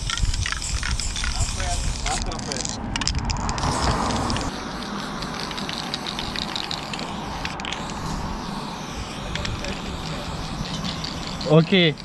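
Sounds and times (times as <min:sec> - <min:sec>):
spray paint can hissing: 0:00.0 - 0:12.0.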